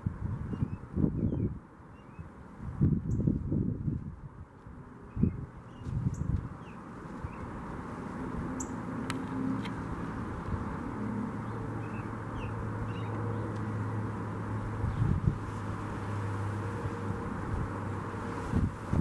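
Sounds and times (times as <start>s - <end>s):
vehicle engine hum: 0.9s - 19.0s.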